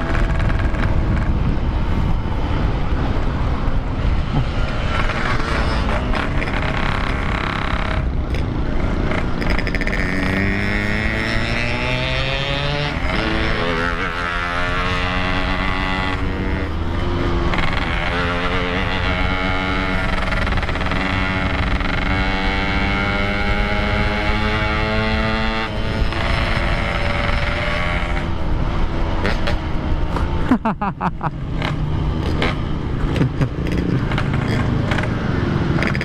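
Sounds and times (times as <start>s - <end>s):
two-stroke motorcycle engine revving: 0.0s - 36.0s.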